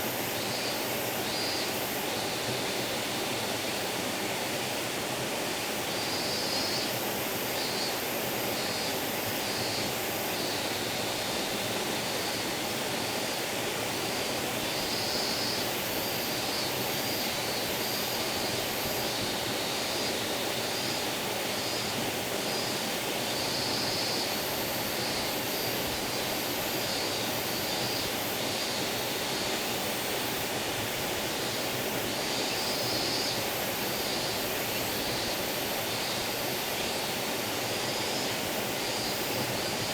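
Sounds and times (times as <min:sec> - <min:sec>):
insects calling: 0:00.0 - 0:03.8, 0:05.8 - 0:39.9.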